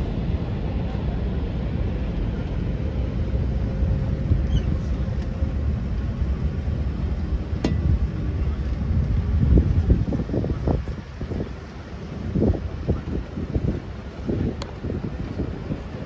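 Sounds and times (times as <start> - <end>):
boat engine rumble: 0.0 - 16.0
wind buffeting microphone: 0.0 - 16.0.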